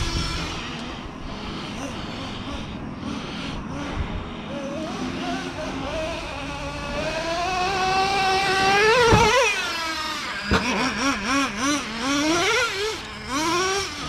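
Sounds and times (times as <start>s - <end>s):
model truck nitro engine revving: 0.0s - 14.0s.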